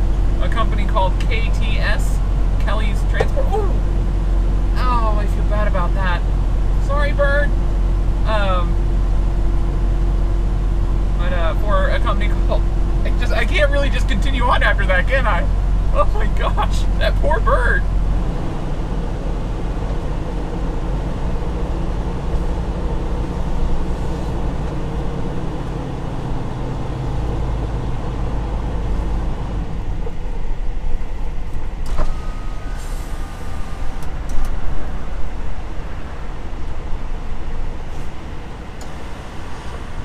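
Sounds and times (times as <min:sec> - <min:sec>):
truck engine and road drone: 0:00.0 - 0:40.0.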